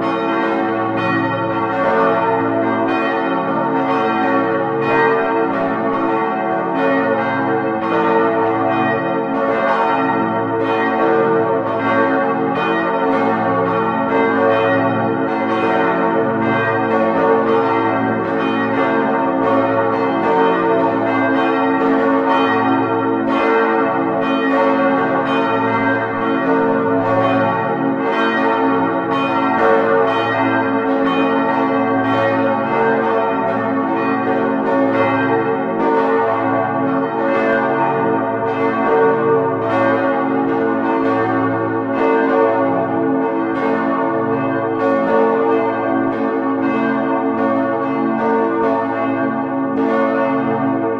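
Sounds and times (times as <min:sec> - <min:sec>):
church bells pealing: 0:00.0 - 0:50.9.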